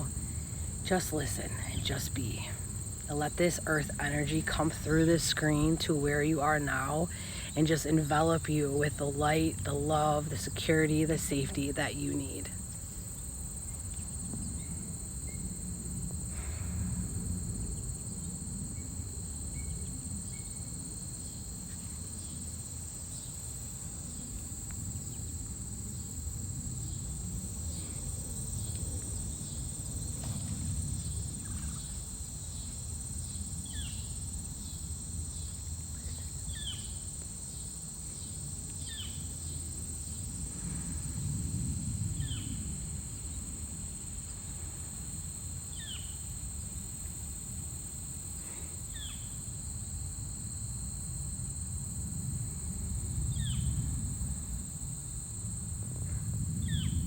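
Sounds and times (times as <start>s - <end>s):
crickets and insects chirring: 0.0s - 57.0s.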